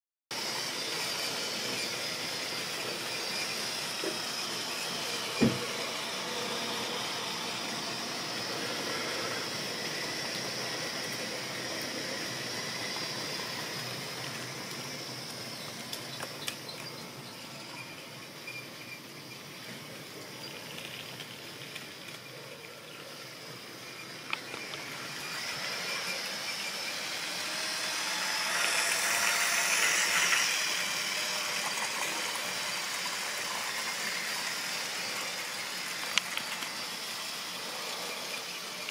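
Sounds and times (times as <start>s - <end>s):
model train motor whirring: 0.3s - 38.9s.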